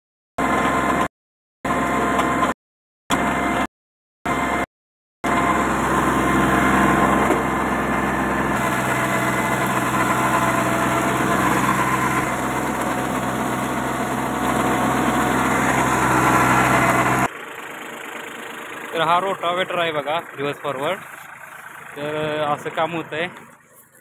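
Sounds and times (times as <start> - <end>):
tractor diesel engine running: 0.4 - 1.1, 1.7 - 3.7, 4.3 - 24.0.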